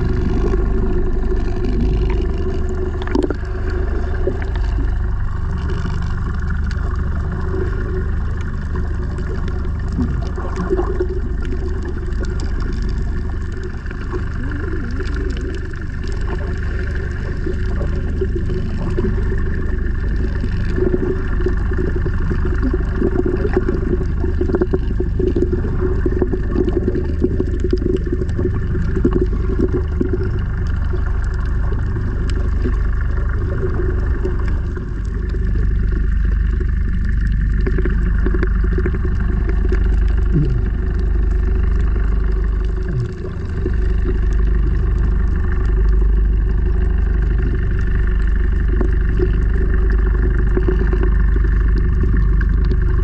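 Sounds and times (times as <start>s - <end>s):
muffled underwater rumble: 0.0s - 53.0s
scattered crackles: 0.0s - 53.0s.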